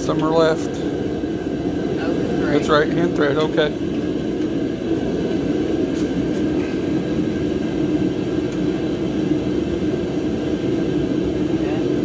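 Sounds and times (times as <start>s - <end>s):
steady mechanical drone: 0.0s - 12.0s.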